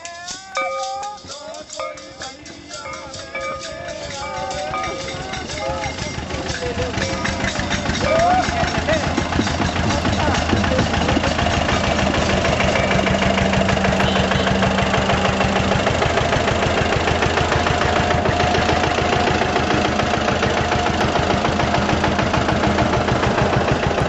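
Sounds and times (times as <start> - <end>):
engine idling with fast pulsing: 0.0 - 24.0.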